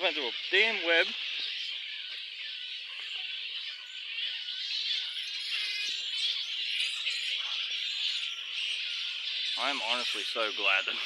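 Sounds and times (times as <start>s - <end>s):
flying foxes chattering: 0.0s - 11.0s.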